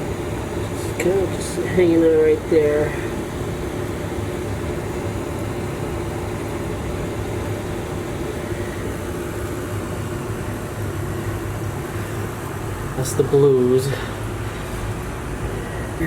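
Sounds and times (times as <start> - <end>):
machine hum with airy hiss: 0.0 - 16.0.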